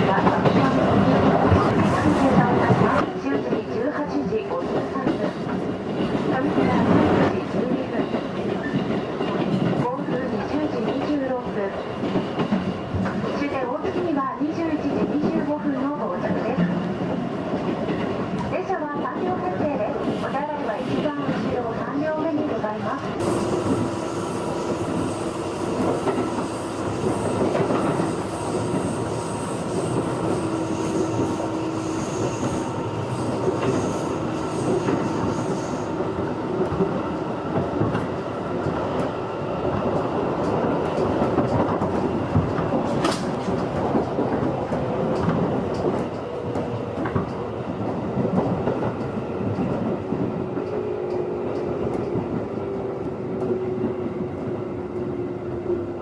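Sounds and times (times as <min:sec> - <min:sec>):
rail joint clicks: 0:00.0 - 0:55.9
train wheels rumbling on rail: 0:00.0 - 0:56.0.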